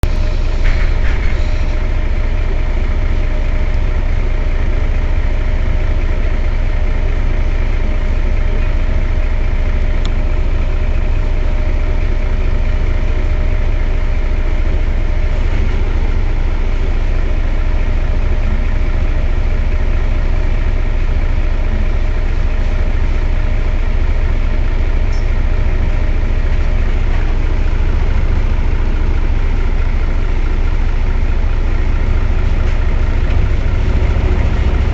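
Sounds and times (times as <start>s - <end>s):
bus engine idling: 0.0s - 34.9s.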